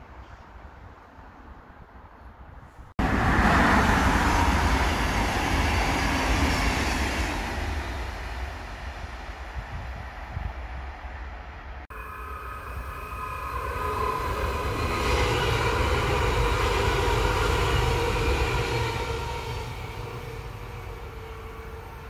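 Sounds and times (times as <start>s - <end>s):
wheels rumbling on rail: 2.6s - 22.0s
electric train whine: 3.0s - 22.0s.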